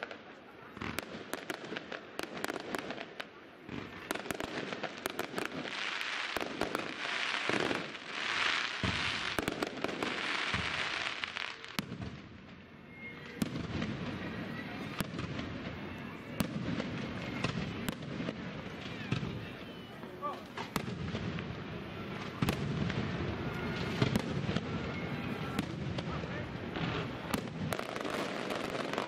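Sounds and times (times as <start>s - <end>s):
fireworks bangs: 0.0s - 29.0s
fireworks crackling hiss: 0.0s - 29.0s.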